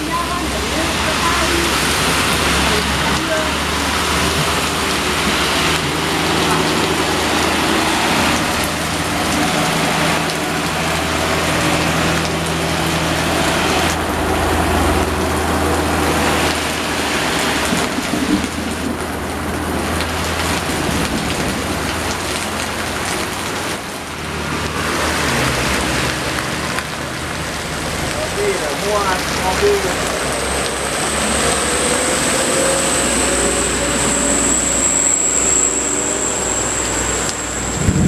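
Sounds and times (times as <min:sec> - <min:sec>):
diesel engine running low: 0:00.0 - 0:38.0
heavy rain falling: 0:00.0 - 0:38.0.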